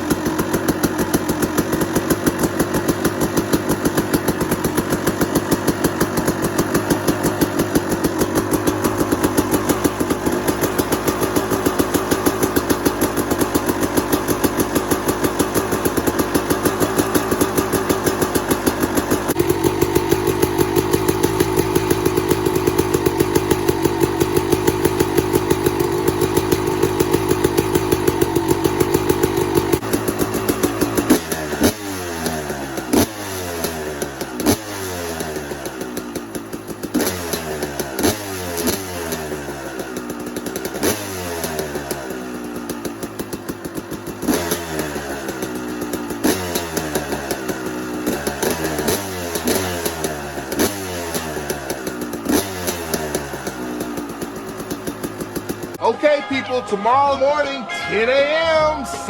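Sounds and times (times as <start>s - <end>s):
motocross bike engine idling and revving: 0.0s - 55.9s.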